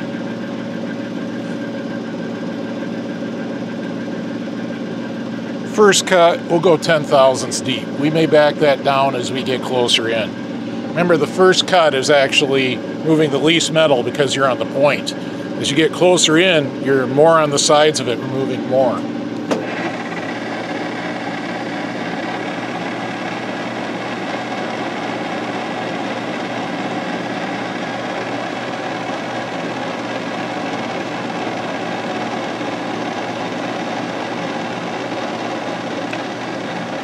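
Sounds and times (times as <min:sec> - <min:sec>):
lathe running steadily: 0:00.0 - 0:37.0.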